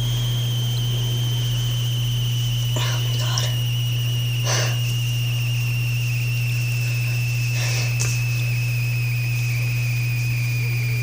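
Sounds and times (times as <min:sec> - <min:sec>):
high-pitched electrical whine: 0:00.0 - 0:11.0
low electrical hum: 0:00.0 - 0:11.0.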